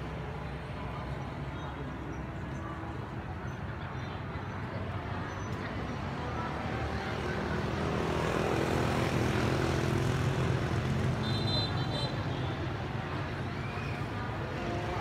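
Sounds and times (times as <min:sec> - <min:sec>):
motorbikes passing: 0:00.4 - 0:15.0.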